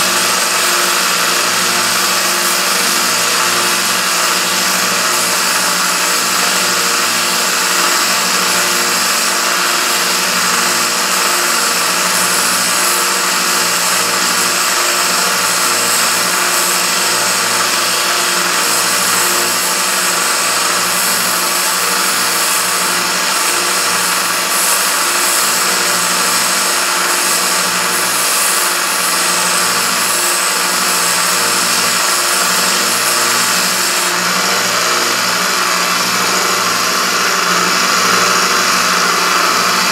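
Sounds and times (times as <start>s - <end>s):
belt sander grinding metal: 0.0s - 39.9s.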